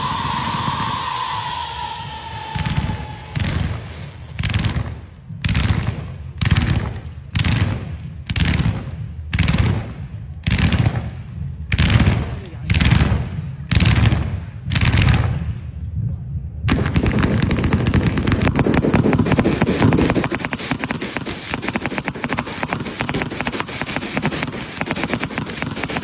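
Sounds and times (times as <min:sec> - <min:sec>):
firecrackers crackling: 0:00.0 - 0:15.8, 0:16.7 - 0:26.0.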